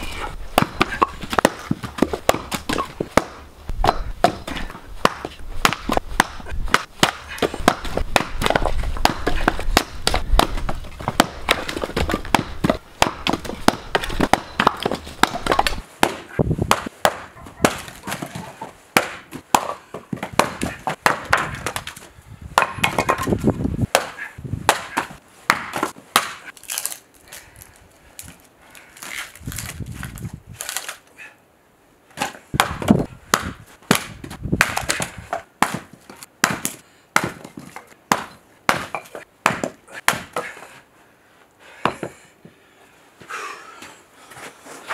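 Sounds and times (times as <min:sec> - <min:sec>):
axe chopping and splitting wood: 0:00.0 - 0:27.0, 0:32.1 - 0:40.8, 0:41.8 - 0:42.2.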